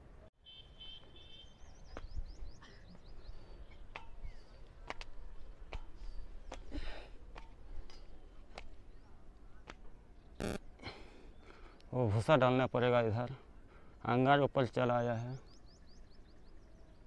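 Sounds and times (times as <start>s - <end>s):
small birds chirping: 1.0s - 17.0s.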